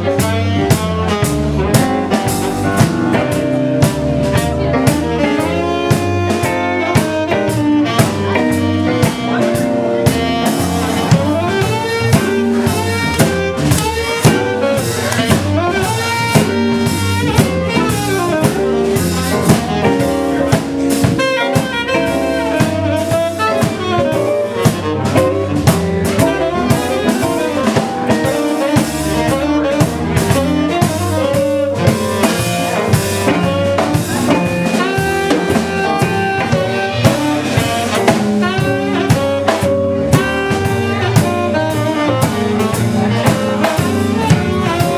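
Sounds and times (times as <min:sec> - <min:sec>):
live band music: 0:00.0 - 0:44.9
steady drum beat: 0:00.0 - 0:44.9.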